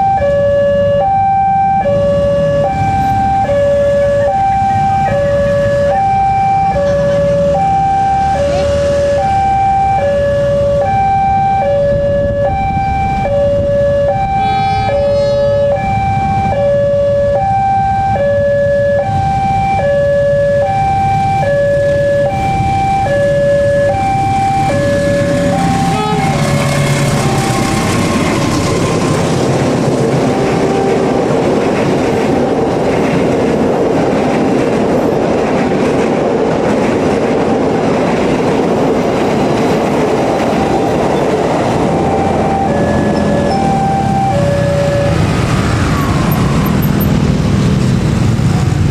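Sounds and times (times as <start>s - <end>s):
level crossing alarm: 0.0s - 32.6s, 39.5s - 47.1s
passing train rumble: 0.0s - 48.9s.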